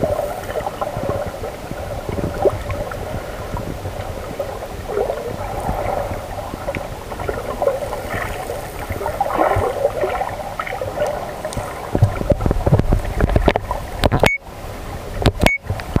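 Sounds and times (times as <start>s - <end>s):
low rumble: 0.0s - 15.4s
muffled underwater sloshing: 0.0s - 16.0s.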